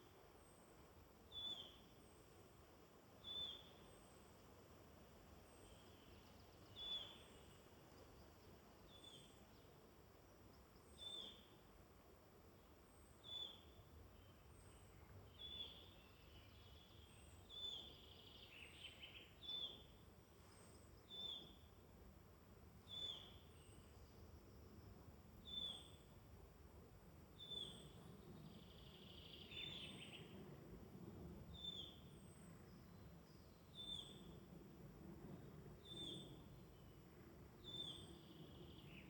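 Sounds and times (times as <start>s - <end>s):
woodland background hiss: 0.0s - 39.0s.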